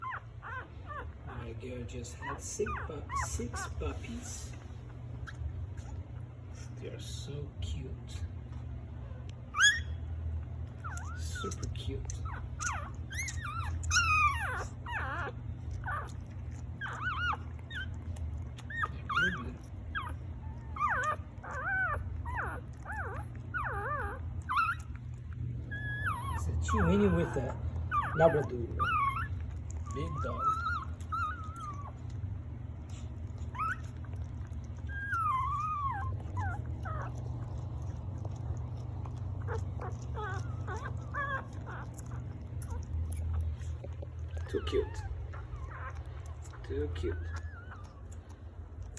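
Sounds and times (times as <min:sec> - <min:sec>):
puppies whimpering: 0:00.0 - 0:06.9, 0:08.1 - 0:48.9
steady low hum: 0:00.0 - 0:48.9.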